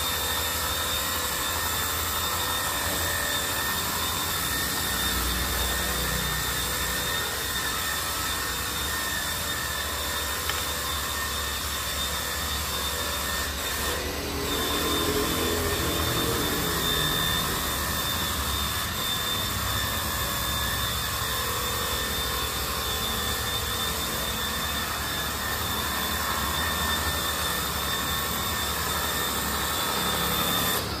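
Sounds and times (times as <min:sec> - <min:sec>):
pressure washer whining: 0:00.0 - 0:31.0.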